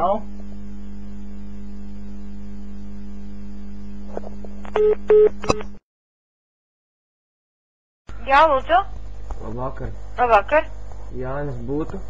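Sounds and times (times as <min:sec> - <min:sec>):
telephone line electrical hum: 0:00.0 - 0:05.8, 0:08.1 - 0:12.0.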